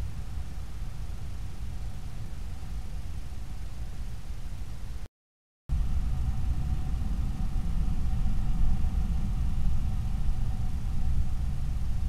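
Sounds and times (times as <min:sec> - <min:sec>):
faint high whine: 0:00.0 - 0:05.1, 0:05.7 - 0:12.0.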